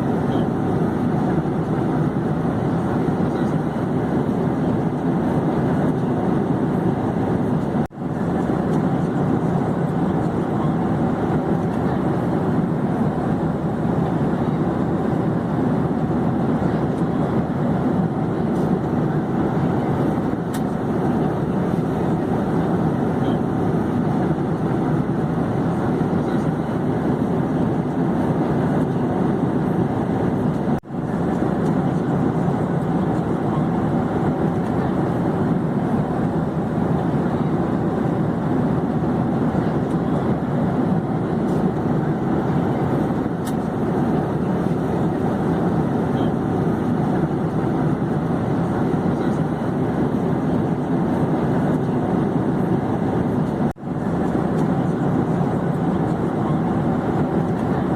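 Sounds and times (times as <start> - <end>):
airplane drone: 0.0 - 57.9.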